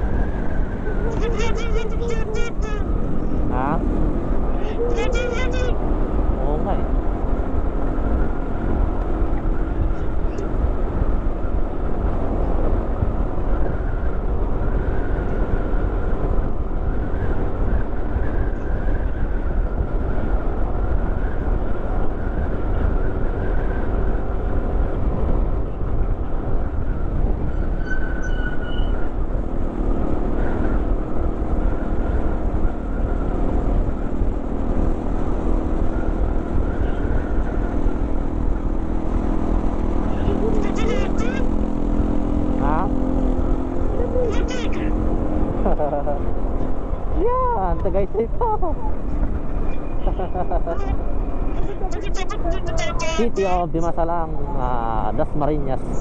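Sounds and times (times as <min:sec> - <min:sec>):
wind rushing on microphone: 0:02.8 - 0:56.0.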